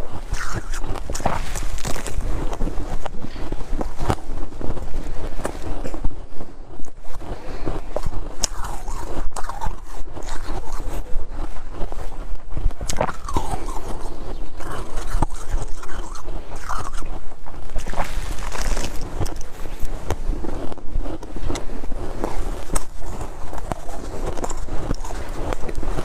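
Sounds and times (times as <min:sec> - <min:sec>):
chewing snow crunches: 0:00.0 - 0:26.0.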